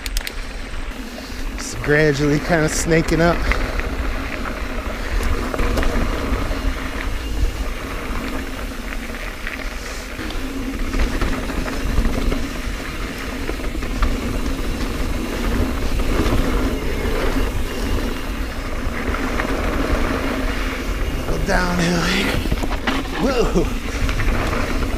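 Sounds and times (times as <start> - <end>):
bike clicks and rattles: 0.0 - 24.9
tyres on dirt: 0.0 - 24.9
wind rumble on microphone: 0.9 - 24.9.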